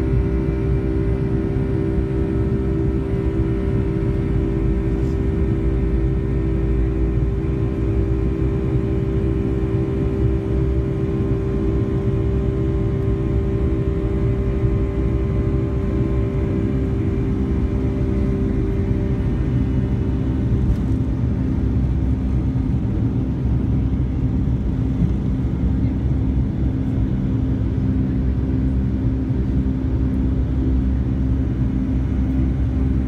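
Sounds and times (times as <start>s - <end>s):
jet engine drone in cabin: 0.0s - 33.0s.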